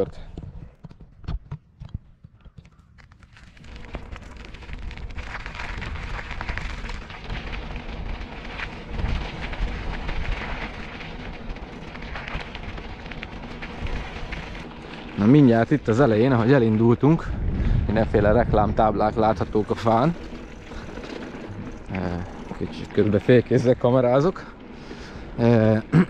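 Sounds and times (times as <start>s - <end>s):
bicycle tyres on gravel: 2.4s - 26.0s.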